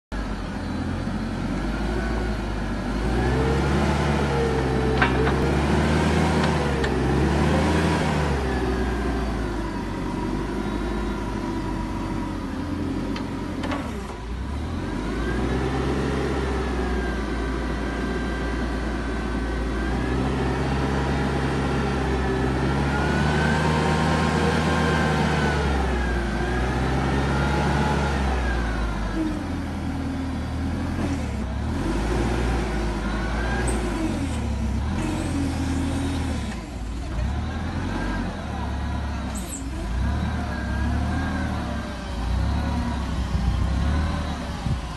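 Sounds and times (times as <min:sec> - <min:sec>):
forklift engine revving: 0:00.2 - 0:44.9.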